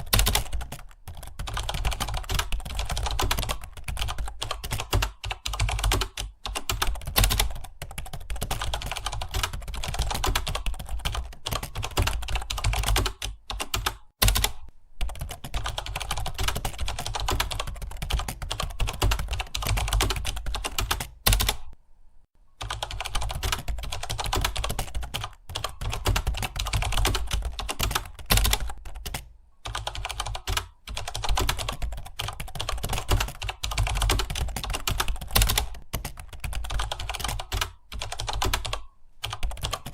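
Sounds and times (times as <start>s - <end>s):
computer keyboard typing: 0.0s - 21.8s, 22.6s - 39.9s.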